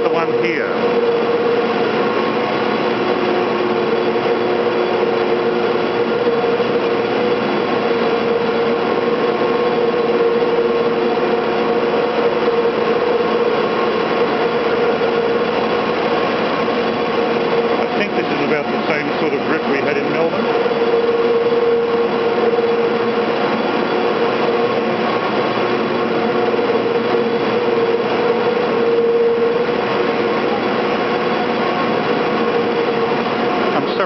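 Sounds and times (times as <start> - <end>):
constant rumbling: 0.0 - 34.0
winding machinery drone: 0.0 - 34.0.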